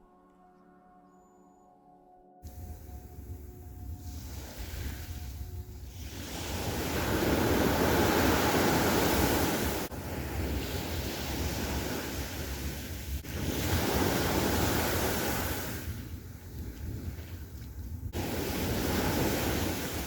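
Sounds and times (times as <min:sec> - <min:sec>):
sea waves breaking: 0:02.5 - 0:20.0
wind buffeting microphone: 0:02.5 - 0:20.0.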